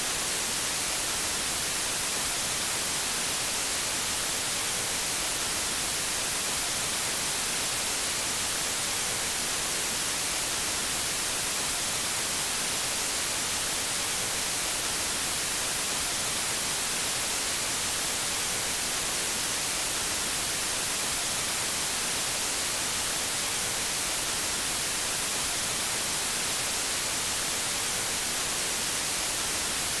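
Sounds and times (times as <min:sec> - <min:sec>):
tv static hiss: 0:00.0 - 0:30.0.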